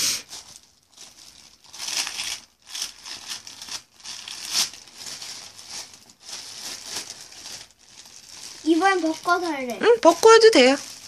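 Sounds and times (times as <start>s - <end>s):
plastic gloves crinkling: 0.0s - 11.0s.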